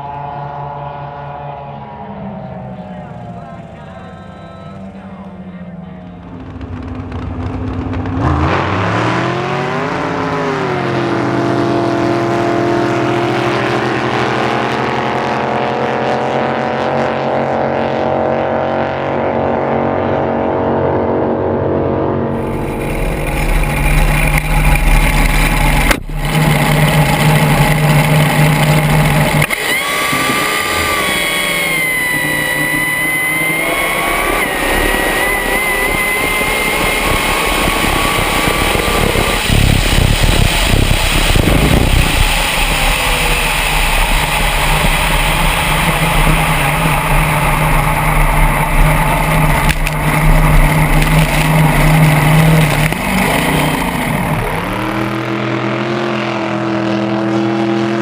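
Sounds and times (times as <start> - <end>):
drag boat engine revving: 0.0 - 58.0.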